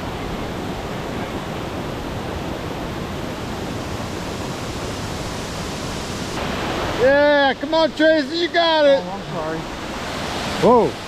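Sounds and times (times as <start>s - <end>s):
waterfall rushing into lake: 0.0s - 11.0s.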